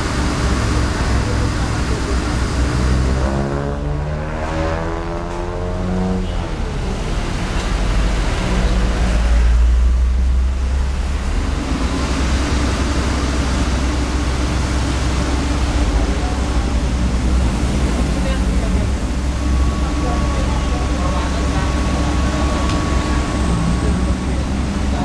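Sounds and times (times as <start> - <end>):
diesel engines rumbling: 0.0 - 25.0
engine whine rising in pitch: 0.0 - 25.0
road traffic: 0.0 - 25.0.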